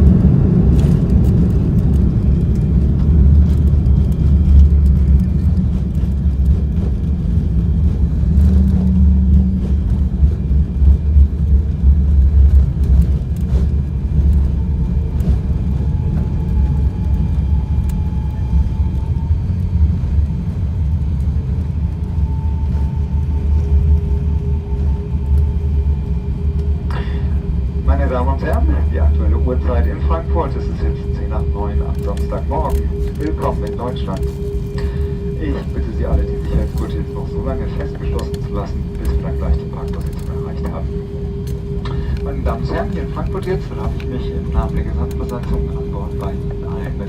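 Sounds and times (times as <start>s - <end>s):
airplane cabin rumble: 0.0s - 47.0s
faint steady whine: 0.0s - 47.0s.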